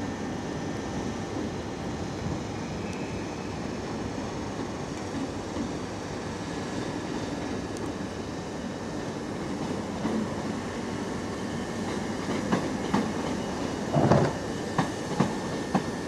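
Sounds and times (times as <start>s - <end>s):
electric train running slowly: 0.0s - 16.0s.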